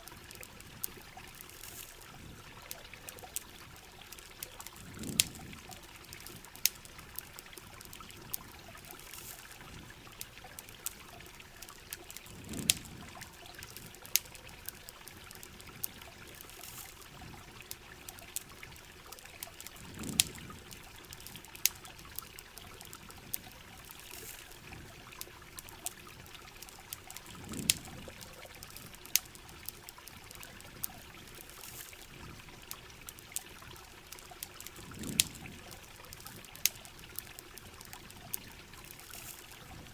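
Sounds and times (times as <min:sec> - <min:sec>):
campfire crackles: 0:00.0 - 0:39.9
water trickling: 0:00.0 - 0:39.9.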